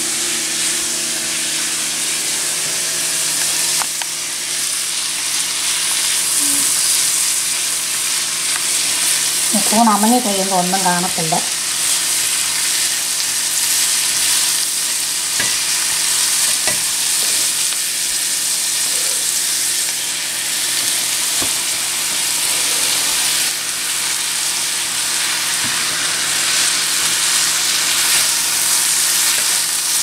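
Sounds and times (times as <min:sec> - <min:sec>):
vegetables sizzling in a skillet: 0:00.0 - 0:30.0.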